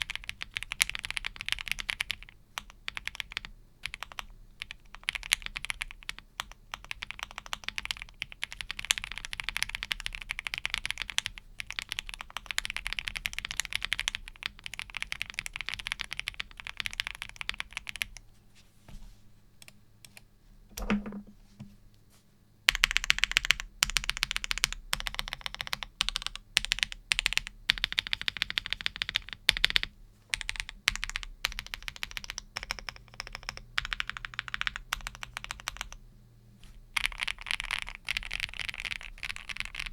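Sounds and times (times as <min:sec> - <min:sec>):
clacking mechanical keyboard typing: 0:00.0 - 0:18.2, 0:22.7 - 0:36.0, 0:37.0 - 0:39.9.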